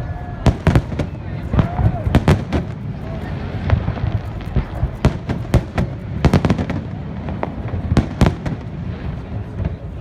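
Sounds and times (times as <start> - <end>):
fireworks sharp bangs: 0.4 - 10.0.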